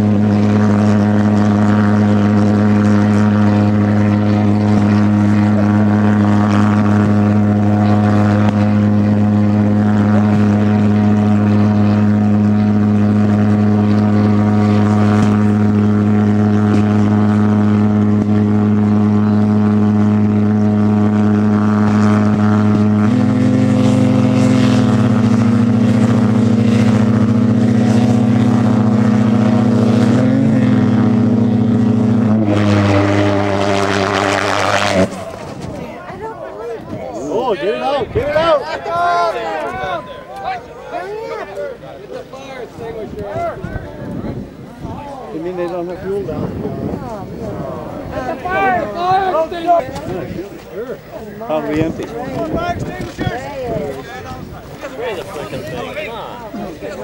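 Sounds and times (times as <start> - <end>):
model jet engines droning: 0.0 - 57.0.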